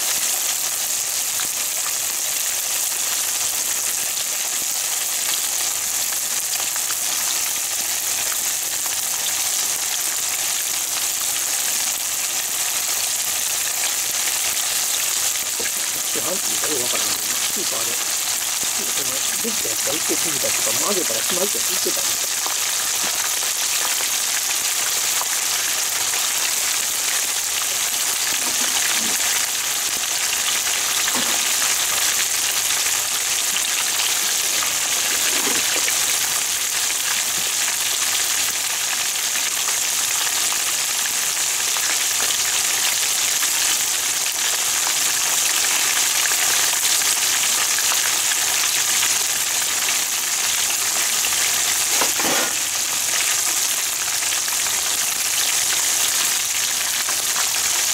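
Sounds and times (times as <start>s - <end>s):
oil sizzling while deep-frying: 0.0s - 57.9s.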